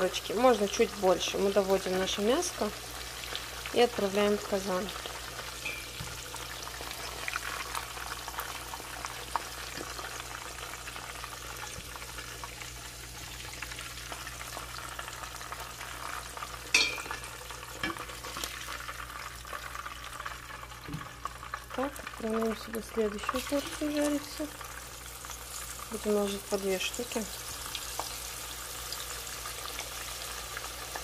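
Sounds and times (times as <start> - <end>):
meat sizzling in oil: 0.0 - 31.0.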